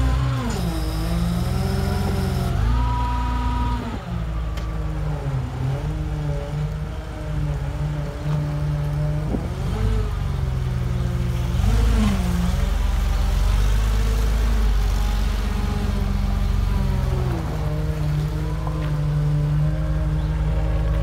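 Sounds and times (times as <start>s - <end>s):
forklift engine revving: 0.0s - 21.0s.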